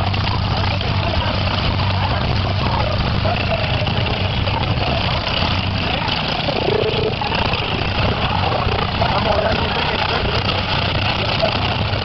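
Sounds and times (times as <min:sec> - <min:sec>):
car engines running: 0:00.0 - 0:12.0
crowd voices: 0:00.0 - 0:12.0.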